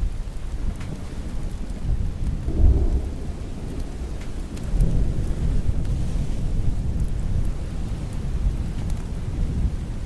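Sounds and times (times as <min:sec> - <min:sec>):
faint crackles: 0:00.0 - 0:10.0
steady rain: 0:00.0 - 0:10.0
thunder rumble: 0:00.0 - 0:10.0.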